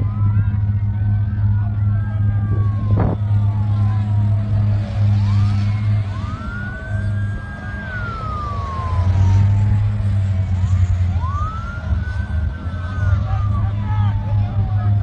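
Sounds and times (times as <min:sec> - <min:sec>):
emergency vehicle sirens wailing: 0:00.0 - 0:15.0
loud low rumble: 0:00.0 - 0:15.0.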